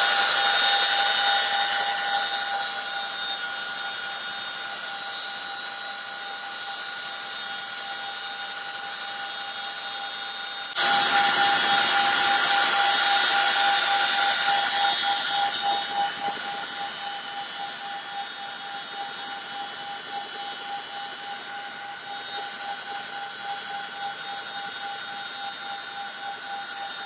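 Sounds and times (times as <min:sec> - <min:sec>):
helicopter engines whining: 0:00.0 - 0:27.0.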